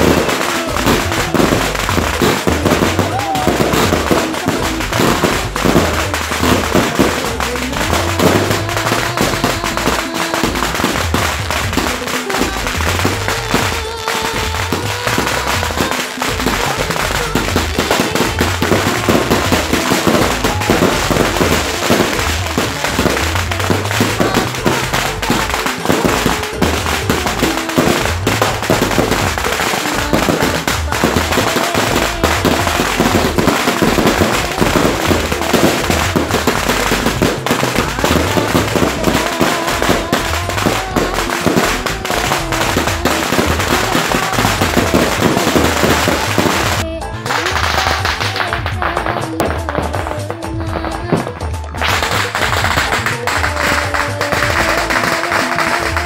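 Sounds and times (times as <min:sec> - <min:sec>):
fireworks bangs and crackles: 0:00.0 - 0:56.0
music playing: 0:00.0 - 0:56.0.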